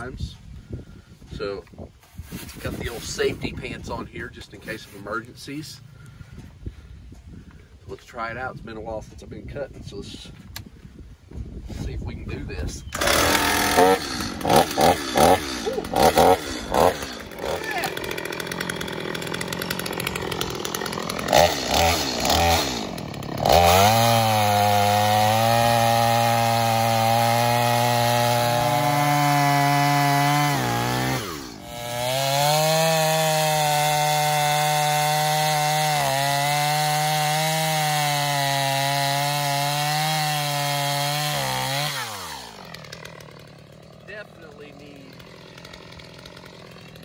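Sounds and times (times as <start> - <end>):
chainsaw revving and cutting log: 2.1 - 5.8, 12.9 - 47.0.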